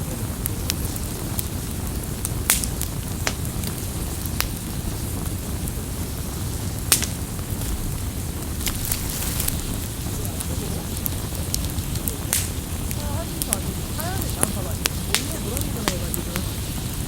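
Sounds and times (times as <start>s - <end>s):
burning wood crackling and popping: 0.0s - 17.0s
campfire flames rumbling: 0.0s - 17.0s.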